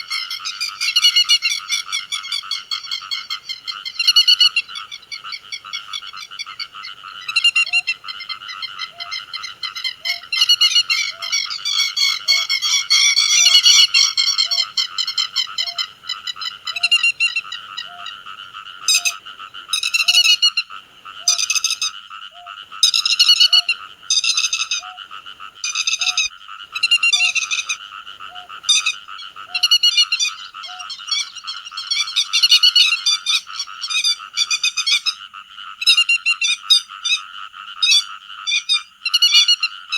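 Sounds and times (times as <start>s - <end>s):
frogs chorus: 0.0s - 39.9s
lapwing calls: 0.0s - 39.9s.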